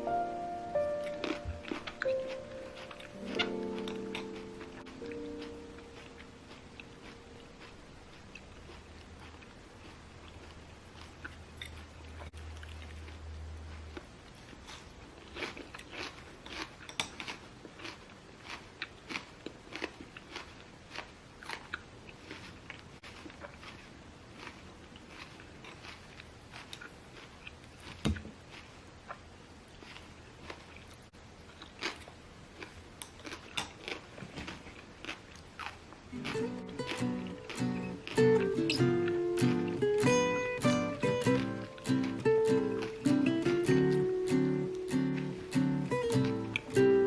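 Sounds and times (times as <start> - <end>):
crunchy food chewing: 0.8 - 47.0.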